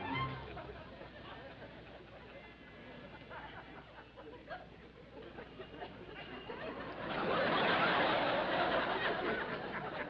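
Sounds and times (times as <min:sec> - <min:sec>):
studio audience laughing: 0:00.0 - 0:10.0.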